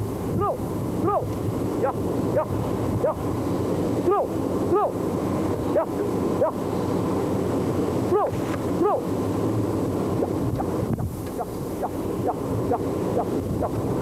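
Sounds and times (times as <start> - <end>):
wind noise: 0.0 - 14.0.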